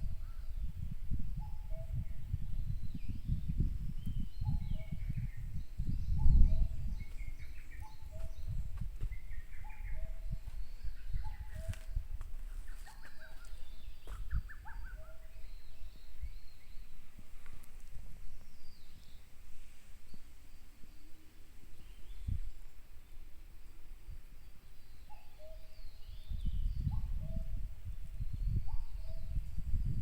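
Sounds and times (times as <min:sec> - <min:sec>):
birds chirping and trilling: 0:00.0 - 0:30.0.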